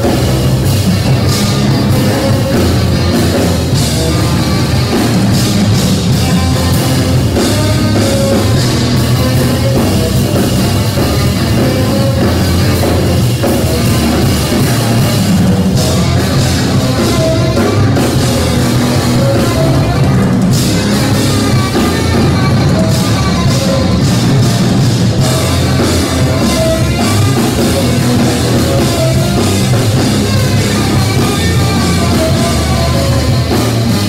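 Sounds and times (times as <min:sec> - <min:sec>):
drum kit: 0:00.0 - 0:34.0
electric string instrument: 0:00.0 - 0:34.0
tenor saxophone: 0:00.0 - 0:34.0.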